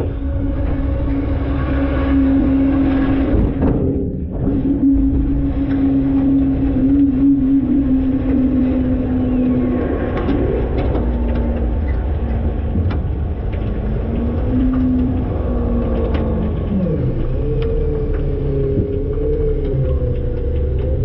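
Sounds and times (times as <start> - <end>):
higher whine: 0.0 - 21.0
truck machinery rumble and hum: 0.0 - 21.0.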